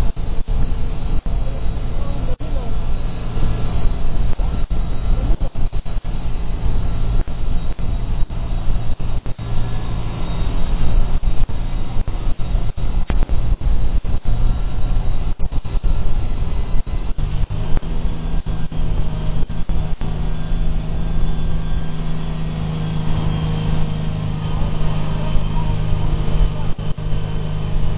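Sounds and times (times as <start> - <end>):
watercraft engine running: 0.0 - 27.9
wind buffeting microphone: 0.0 - 27.9.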